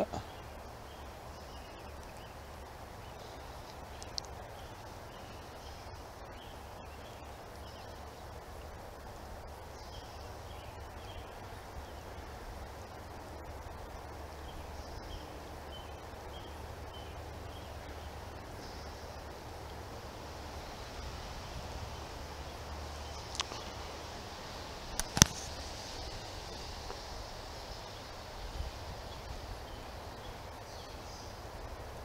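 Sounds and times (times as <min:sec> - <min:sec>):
birds chirping faintly: 0:00.0 - 0:32.0
low rumble and hiss: 0:00.0 - 0:32.0.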